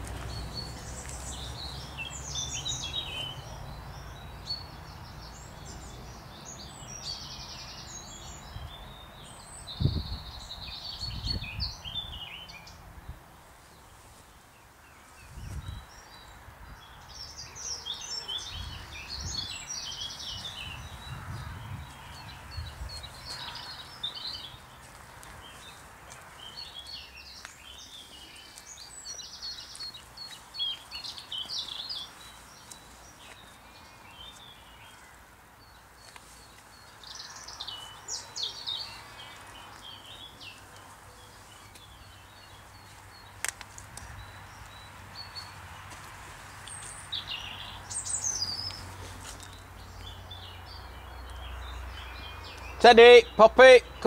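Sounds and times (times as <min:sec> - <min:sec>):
songbirds singing and trilling: 0:00.0 - 0:54.0.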